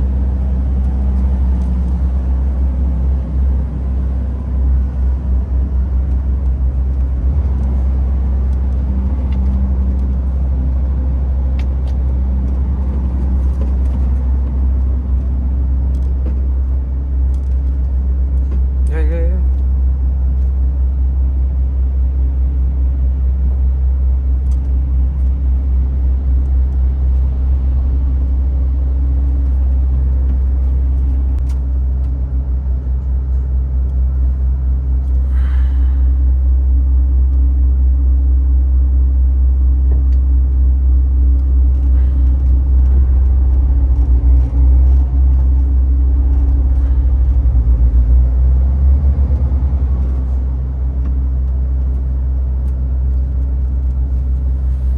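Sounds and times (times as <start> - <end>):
truck diesel engine rumbling: 0.0 - 54.9.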